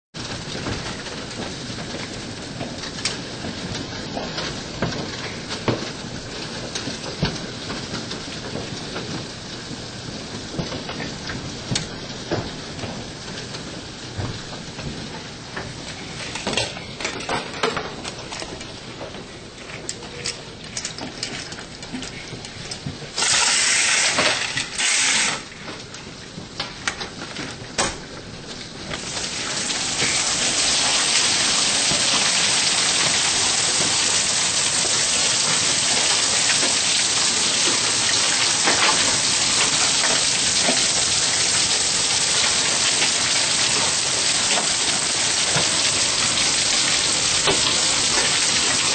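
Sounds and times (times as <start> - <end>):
hail and heavy rain on wooden deck: 0.2 - 48.9.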